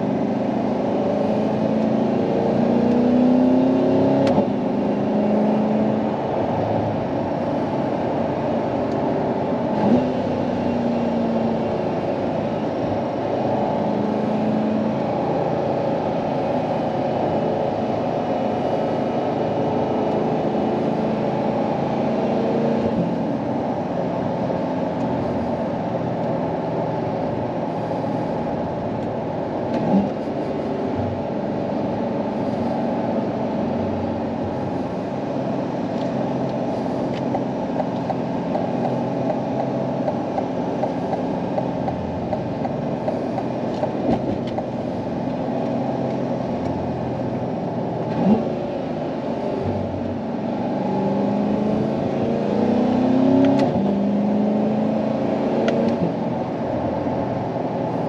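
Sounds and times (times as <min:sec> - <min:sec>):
car engine cruising: 0:00.0 - 0:58.0
road and tyre noise: 0:00.0 - 0:58.0.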